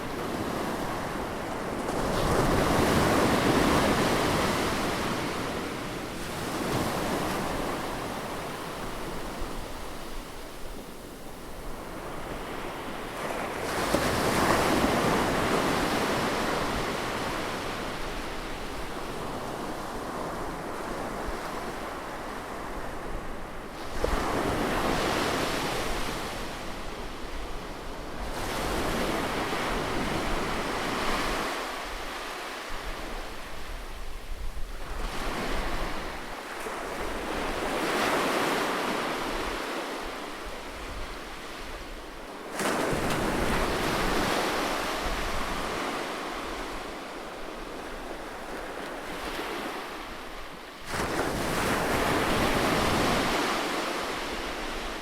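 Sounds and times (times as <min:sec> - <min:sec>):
ocean waves breaking on beach: 0:00.0 - 0:33.9, 0:34.8 - 0:55.0.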